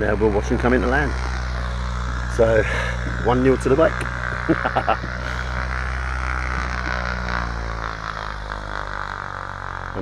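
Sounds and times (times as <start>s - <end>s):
aircraft engine droning: 0.0s - 10.0s.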